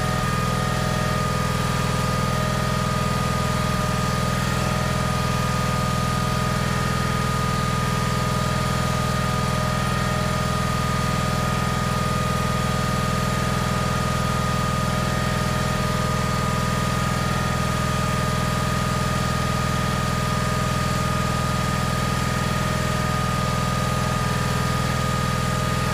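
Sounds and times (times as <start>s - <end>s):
garden tractor engine idling: 0.0s - 25.9s.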